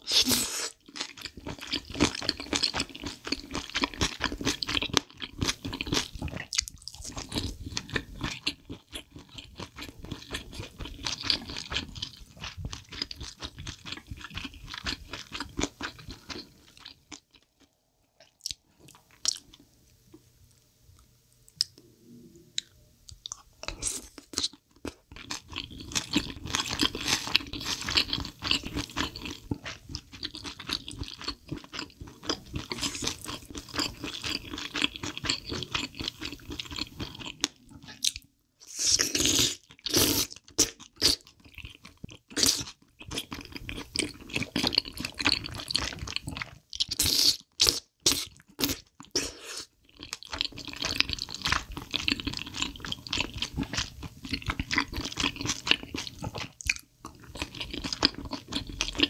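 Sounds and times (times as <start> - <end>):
chewing and crunching: 0.1 - 19.6, 23.1 - 59.0.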